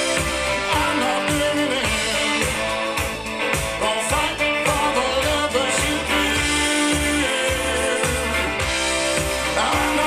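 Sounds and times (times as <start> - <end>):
rock music over loudspeakers: 0.0 - 10.0.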